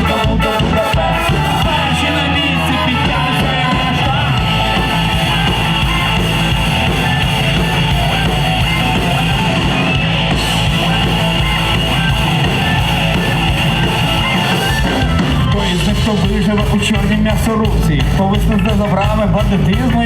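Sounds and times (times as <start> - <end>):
electric guitar: 0.0 - 20.0
live rock band: 0.0 - 20.0.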